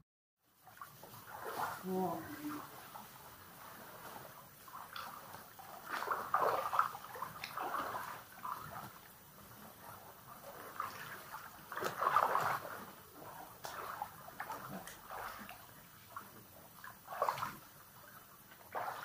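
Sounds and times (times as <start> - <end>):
small waves lapping against rock: 0.6 - 19.0.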